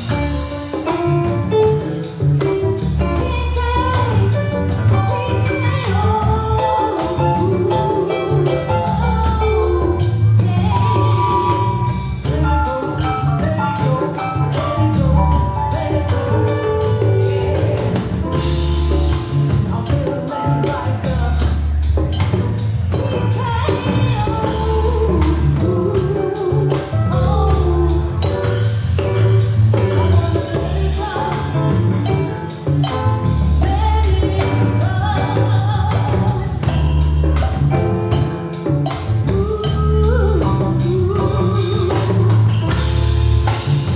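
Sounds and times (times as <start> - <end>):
bass line: 0.0 - 43.9
drums: 0.0 - 43.9
guitar: 0.0 - 43.9.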